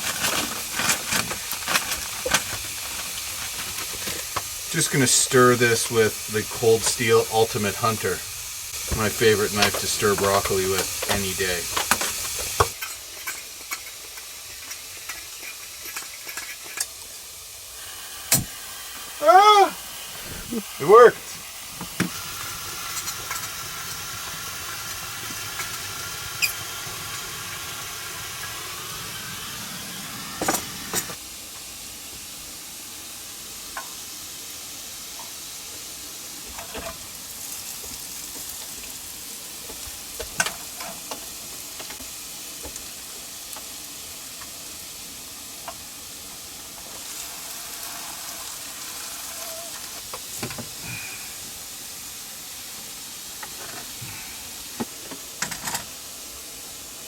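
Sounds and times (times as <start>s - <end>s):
steaks sizzling: 0.0s - 57.0s.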